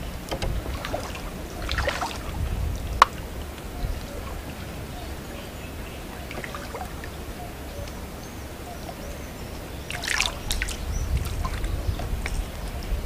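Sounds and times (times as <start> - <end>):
low rumble: 0.0 - 13.0
river water lapping: 0.0 - 13.0.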